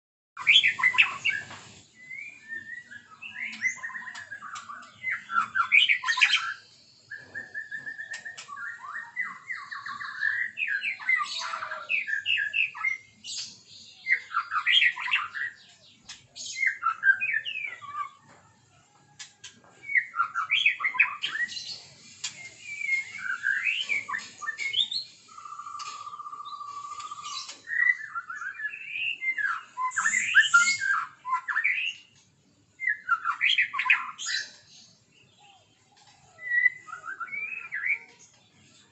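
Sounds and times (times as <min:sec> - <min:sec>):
bird singing whistled phrases: 0:00.4 - 0:13.5, 0:16.5 - 0:18.2, 0:19.8 - 0:32.1, 0:32.8 - 0:34.6, 0:35.3 - 0:38.2.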